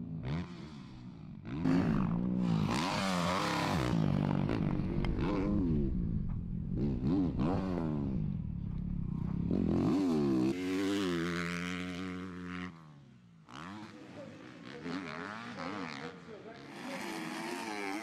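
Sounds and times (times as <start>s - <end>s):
motorbike at high revs: 0.0s - 18.0s
motocross bike engines revving: 0.1s - 18.0s.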